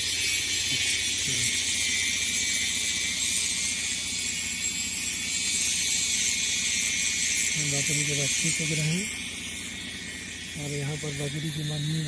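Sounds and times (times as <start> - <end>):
high-pitched hiss: 0.0 - 12.0
low steady hum: 0.0 - 12.0.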